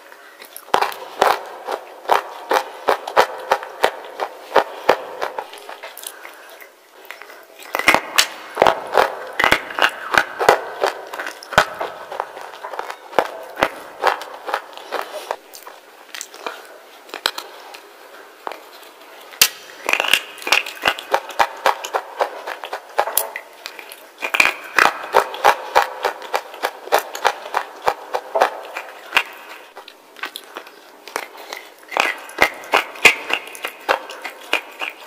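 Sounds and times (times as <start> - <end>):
slate being chewed crunching: 0.4 - 35.0.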